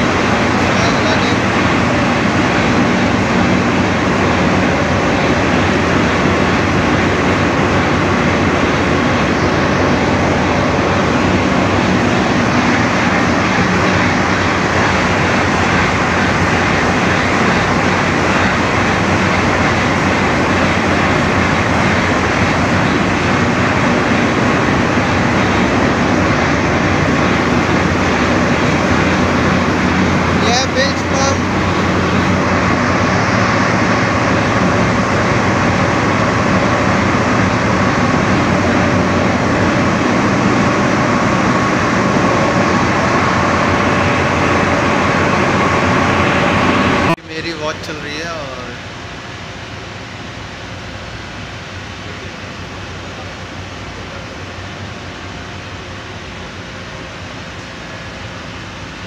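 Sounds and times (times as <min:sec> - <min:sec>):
engine room machinery: 0:00.0 - 0:59.0
low hum: 0:00.0 - 0:59.0.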